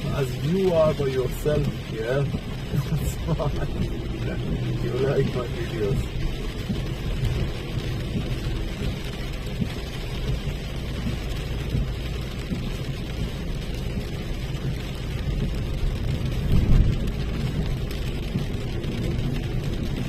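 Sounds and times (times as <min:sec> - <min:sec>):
low rumble: 0:00.0 - 0:20.0
rain on a car: 0:00.0 - 0:20.0
road and engine noise: 0:00.0 - 0:20.0.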